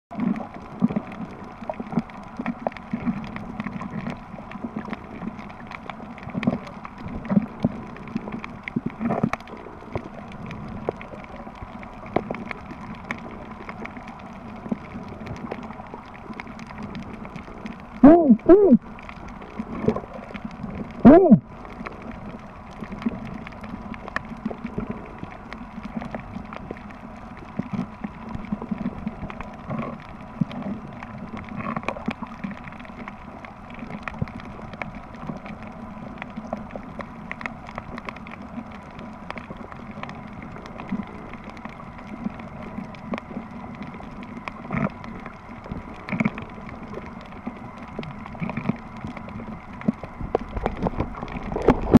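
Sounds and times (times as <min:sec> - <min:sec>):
muffled underwater wash: 0:00.1 - 0:52.0
underwater clicks and crackles: 0:00.1 - 0:52.0.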